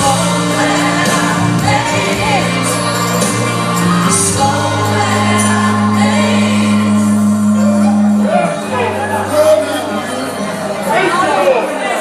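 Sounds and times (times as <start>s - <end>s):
people singing: 0.0s - 11.0s
band holding low chords: 0.0s - 11.3s.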